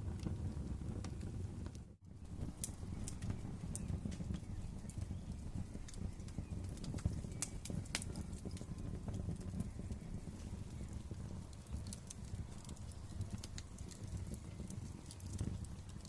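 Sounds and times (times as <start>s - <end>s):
wood fire crackling: 0.0s - 16.0s
sharp pops and snaps: 1.8s - 16.0s.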